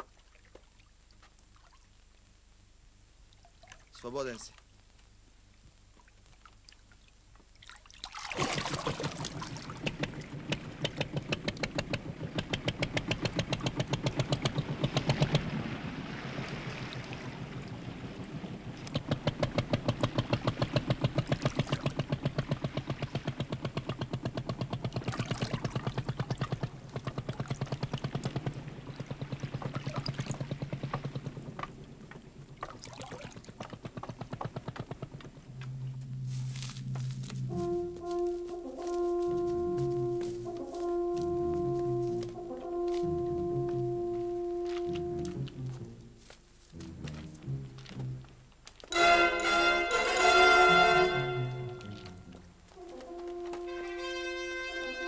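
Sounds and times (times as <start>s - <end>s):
water splashing: 3.3s - 4.7s, 6.0s - 55.0s
motorboat engine chugging: 8.4s - 55.0s.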